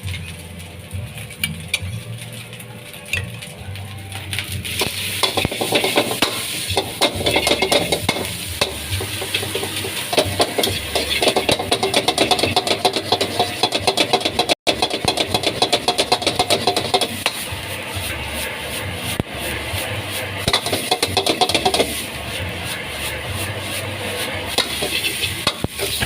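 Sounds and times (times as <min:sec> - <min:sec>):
rice sizzling in a pan: 0:00.0 - 0:26.0
metal spatula scraping a wok: 0:04.6 - 0:26.0.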